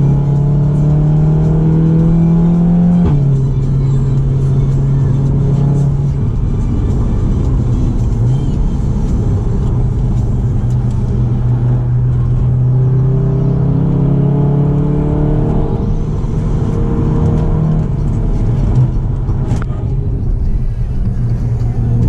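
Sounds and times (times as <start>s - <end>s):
car engine drone in cabin: 0.0s - 22.0s
tyre and road noise: 0.0s - 22.0s.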